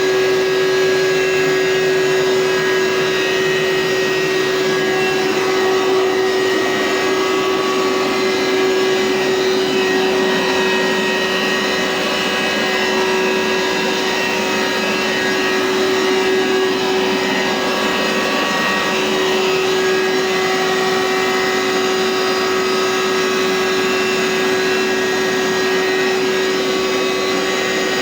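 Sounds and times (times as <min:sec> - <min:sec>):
carpet cleaner running: 0:00.0 - 0:28.0.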